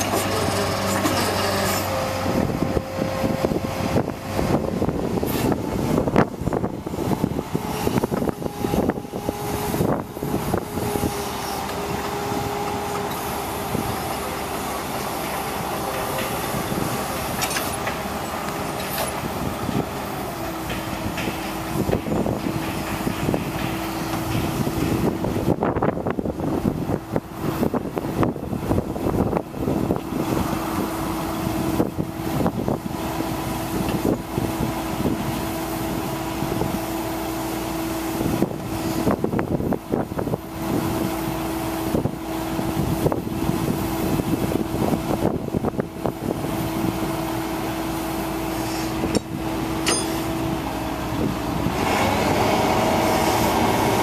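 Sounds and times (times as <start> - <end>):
truck engine droning: 0.0 - 54.0.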